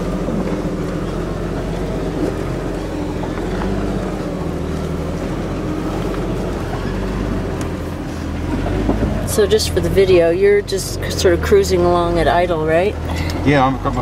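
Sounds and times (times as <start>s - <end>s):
engine idling low hum: 0.0s - 14.0s.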